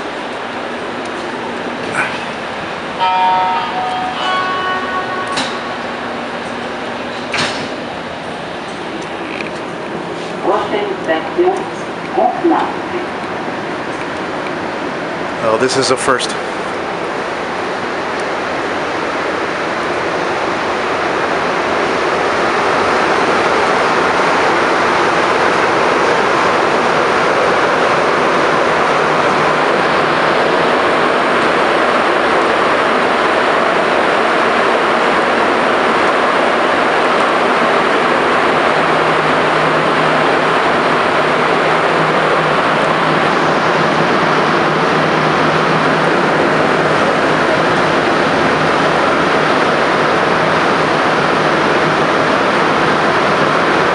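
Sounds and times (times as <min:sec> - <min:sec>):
metro train rumbling in tunnel: 0:00.0 - 0:53.9.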